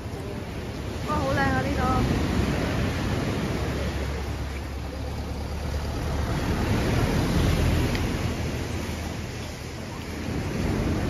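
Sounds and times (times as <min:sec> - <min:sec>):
heavy surf: 0:00.0 - 0:11.0
wind rumbling on microphone: 0:00.0 - 0:11.0.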